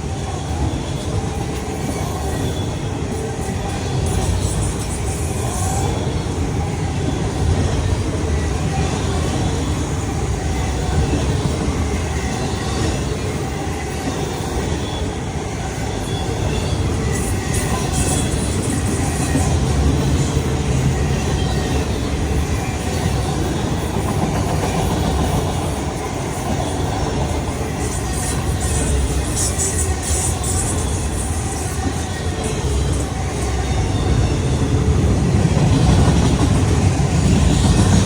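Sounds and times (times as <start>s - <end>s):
clickety-clack over rail joints: 0.0s - 38.0s
train wheels rumbling on rail: 0.0s - 38.0s.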